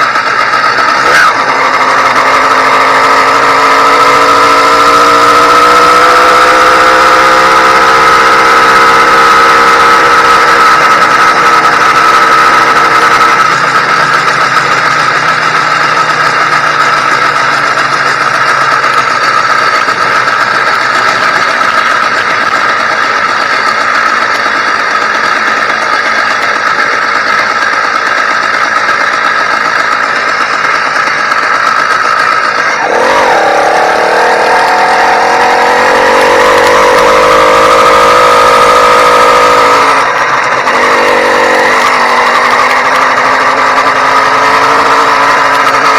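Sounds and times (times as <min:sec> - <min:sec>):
two-stroke bicycle engine running: 0:00.0 - 0:45.9.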